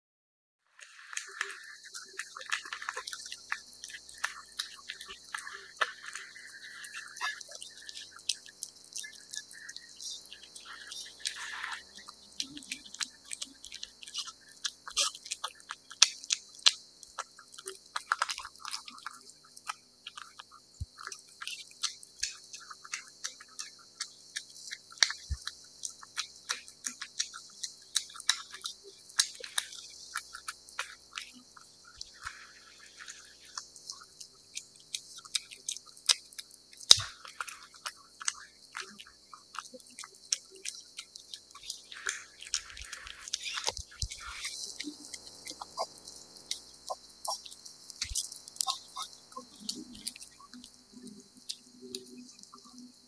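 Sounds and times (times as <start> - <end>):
cat chewing wet food: 0.8 - 52.7.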